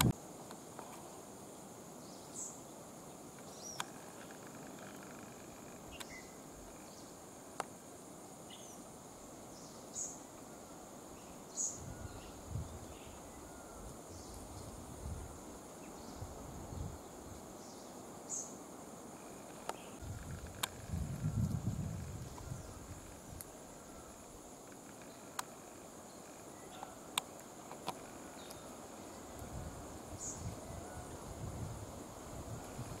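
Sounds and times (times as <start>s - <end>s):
insect trill: 0.0s - 33.0s.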